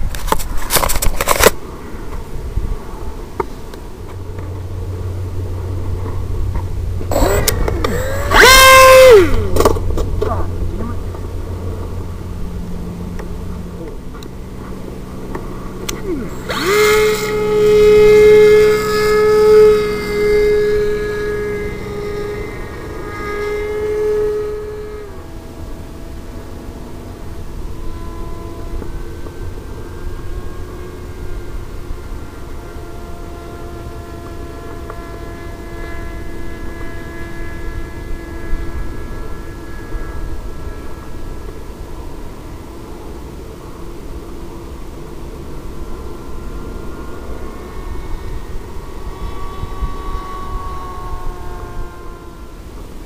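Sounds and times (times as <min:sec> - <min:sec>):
electric motor whine: 0:00.0 - 0:53.0
low hum: 0:00.0 - 0:53.0.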